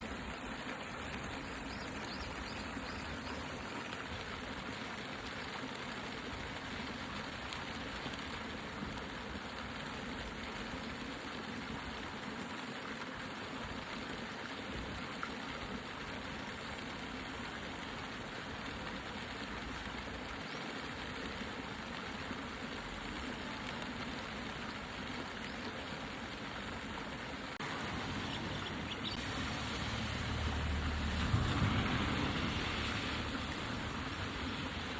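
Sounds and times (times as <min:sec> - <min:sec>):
rain falling on leaves: 0:00.4 - 0:34.9.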